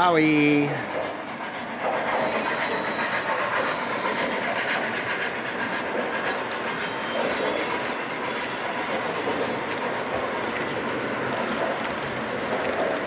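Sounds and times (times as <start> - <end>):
model train wheels rumbling: 0.0 - 13.0
clicking over rails: 0.8 - 13.0.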